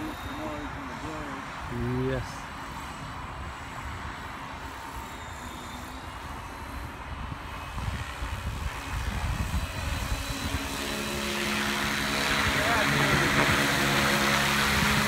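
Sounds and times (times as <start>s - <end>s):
noisy rush: 0.0s - 15.0s
rc helicopter motor whine: 0.0s - 15.0s.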